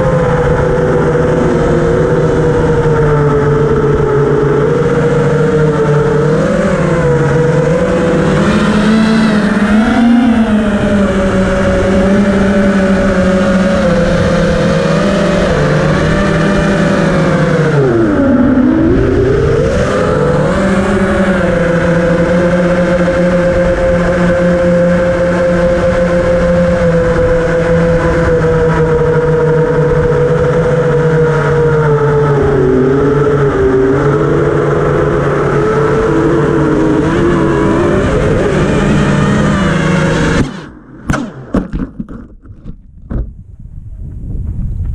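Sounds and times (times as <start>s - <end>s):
quadcopter motors whining: 0.0s - 41.6s.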